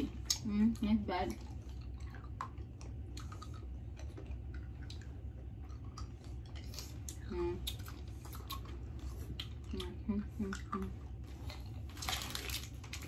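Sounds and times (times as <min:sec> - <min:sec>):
steady low hum: 0:00.0 - 0:13.0
mouth chewing and sucking candy: 0:01.3 - 0:13.0.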